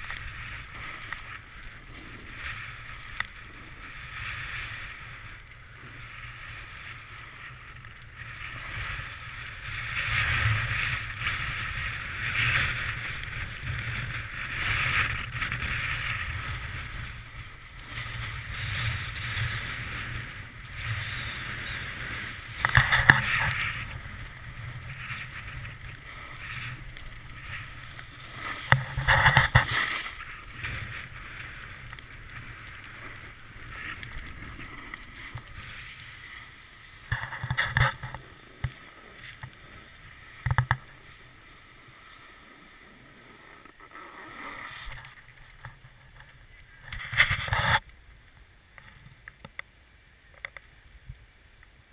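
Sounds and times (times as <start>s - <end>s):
snowboard scraping over snow: 0.0s - 47.8s.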